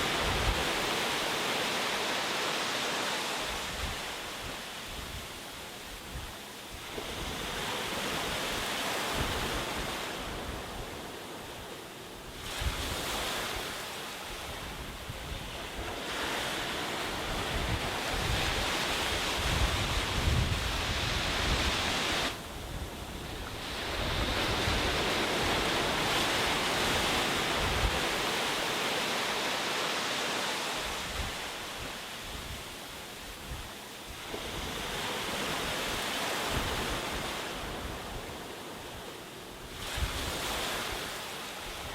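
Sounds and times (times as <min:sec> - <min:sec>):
wind buffeting the microphone: 0:00.0 - 0:01.2, 0:03.5 - 0:28.8, 0:30.8 - 0:41.9
surf breaking on a beach: 0:00.0 - 0:41.9.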